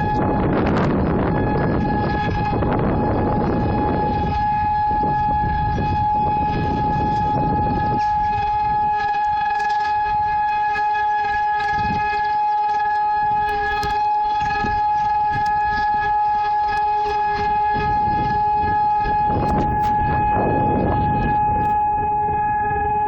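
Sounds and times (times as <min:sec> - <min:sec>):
low rumbling noise: 0:00.0 - 0:23.0
warning siren steady tone: 0:00.0 - 0:23.0.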